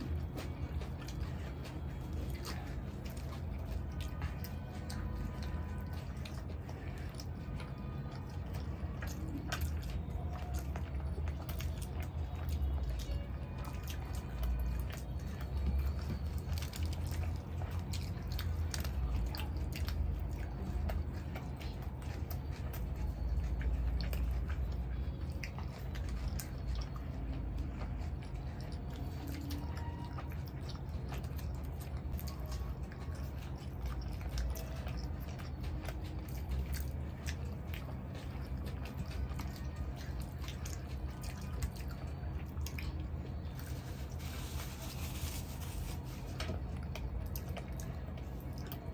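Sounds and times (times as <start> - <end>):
chewing and wet mouth smacks: 0.0 - 48.9.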